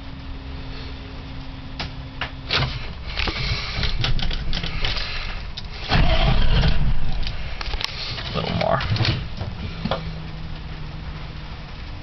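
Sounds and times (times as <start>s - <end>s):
diesel engine low rumble: 0.0s - 12.0s
diesel engine cranking and starting: 1.8s - 12.0s.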